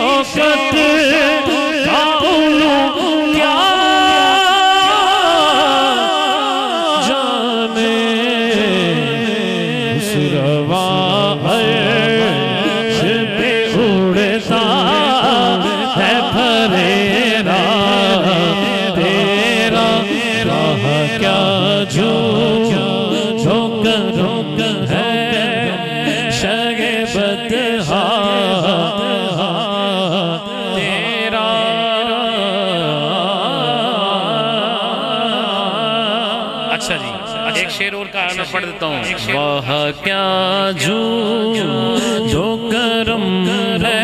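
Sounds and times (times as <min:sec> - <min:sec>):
man singing into a microphone: 0:00.0 - 0:44.0.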